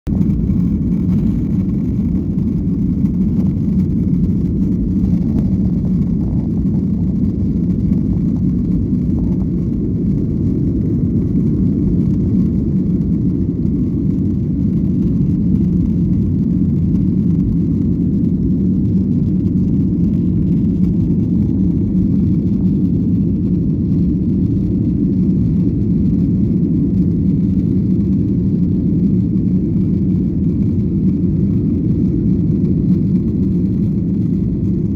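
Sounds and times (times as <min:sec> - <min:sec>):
jet engine rumble: 0:00.0 - 0:34.9.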